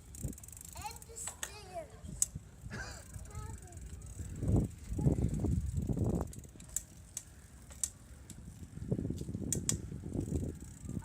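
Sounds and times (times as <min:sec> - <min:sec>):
bicycle freewheel ratcheting: 0:00.0 - 0:11.0
low rumble of bicycle ride: 0:00.0 - 0:11.0.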